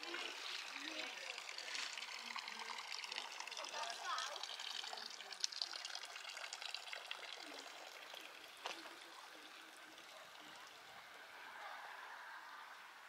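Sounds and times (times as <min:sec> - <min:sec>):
water trickling: 0:00.0 - 0:11.6.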